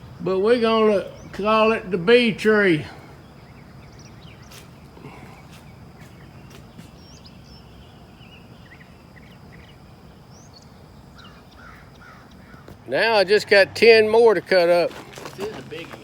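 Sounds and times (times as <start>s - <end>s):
birds chirping: 0.0s - 16.0s
thin high whine: 0.0s - 16.0s.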